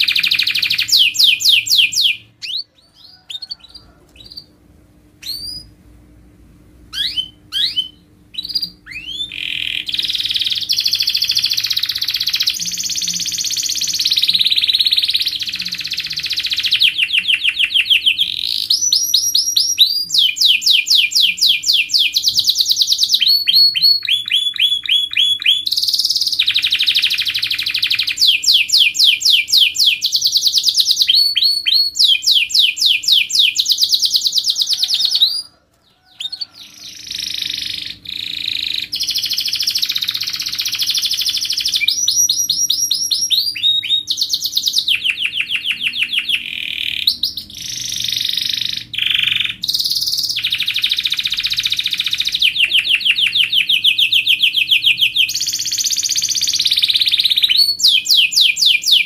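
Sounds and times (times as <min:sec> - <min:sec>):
canary singing trills: 0:00.0 - 0:04.6, 0:05.2 - 0:05.8, 0:06.9 - 0:59.0.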